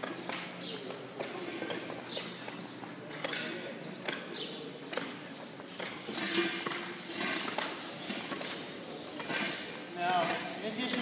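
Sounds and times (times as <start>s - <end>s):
busy background clatter: 0.0s - 11.0s.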